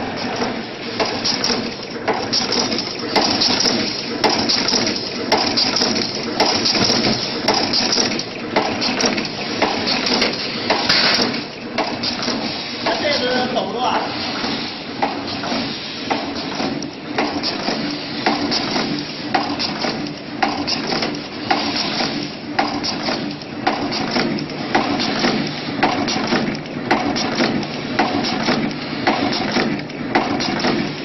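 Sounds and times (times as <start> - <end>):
mechanical hum and hiss: 0.0 - 31.0.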